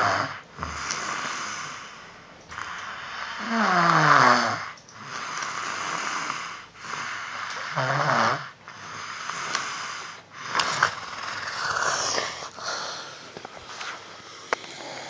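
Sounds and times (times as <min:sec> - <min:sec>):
wheezy snoring: 0:00.0 - 0:15.0.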